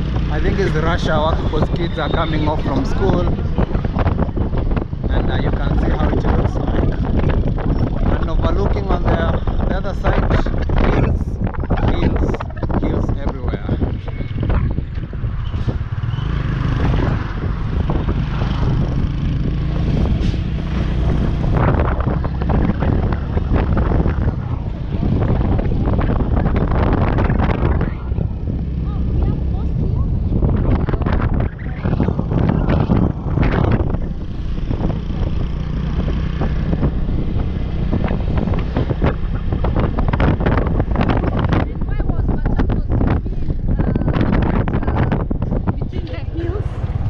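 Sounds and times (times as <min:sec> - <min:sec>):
vehicle rumbling: 0:00.0 - 0:47.0
wind buffeting microphone: 0:00.0 - 0:47.0.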